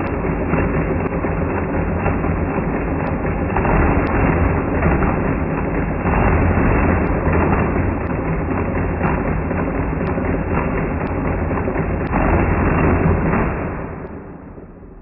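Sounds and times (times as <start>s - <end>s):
slowed mechanical calculator clatter: 0.0s - 15.0s.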